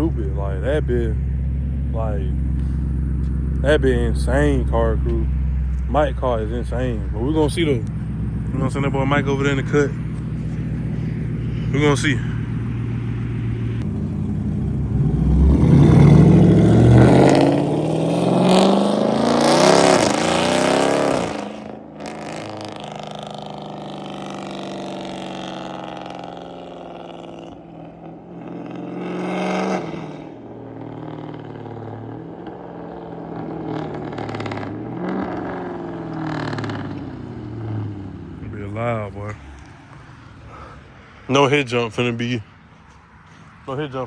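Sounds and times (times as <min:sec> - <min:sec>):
car exhaust accelerating hard: 0:00.0 - 0:40.8.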